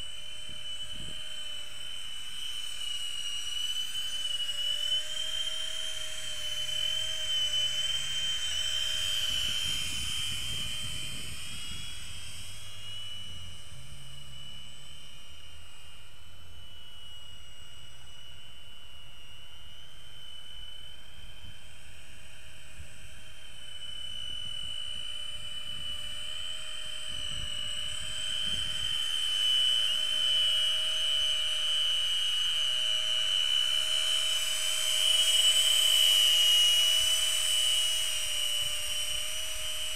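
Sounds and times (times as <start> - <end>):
drone fans whining: 0.0 - 39.9.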